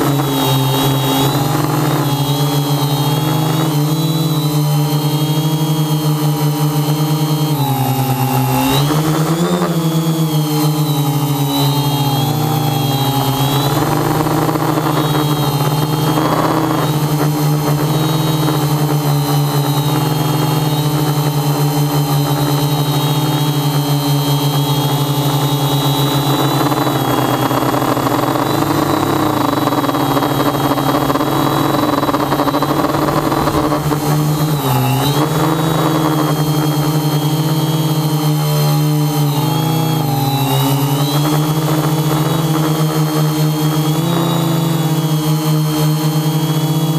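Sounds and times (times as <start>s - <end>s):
drone propellers whining: 0.0s - 46.9s.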